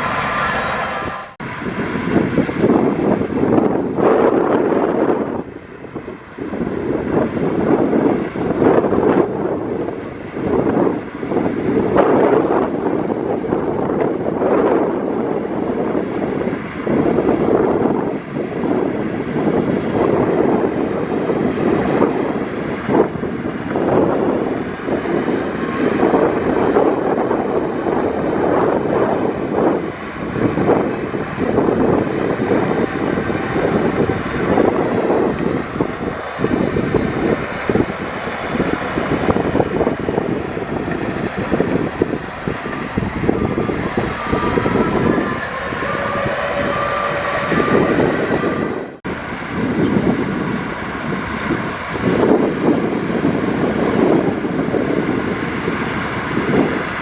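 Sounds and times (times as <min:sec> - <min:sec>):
bulldozer diesel engine under load: 0:00.0 - 0:57.0
clanking rattling tracks: 0:00.0 - 0:57.0.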